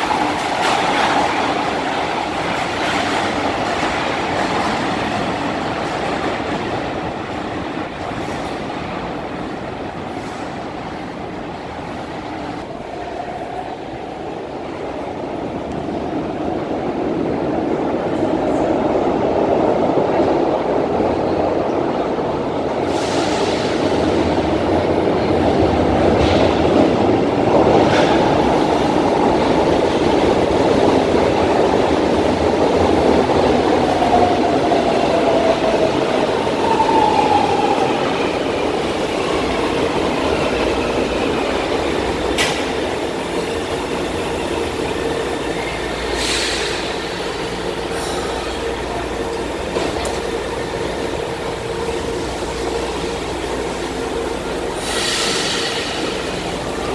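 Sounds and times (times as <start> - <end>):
train rumble of wheels and motors: 0.0 - 56.9.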